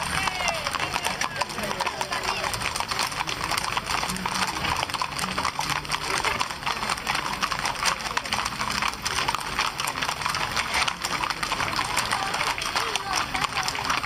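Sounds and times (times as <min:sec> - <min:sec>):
horse hooves clip-clopping: 0:00.0 - 0:14.0
people's voices: 0:00.0 - 0:14.0.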